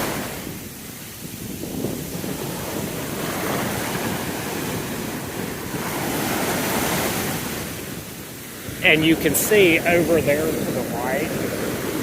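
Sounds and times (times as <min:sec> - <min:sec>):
sea surf breaking: 0:00.0 - 0:12.0
wind buffeting microphone: 0:00.0 - 0:12.0.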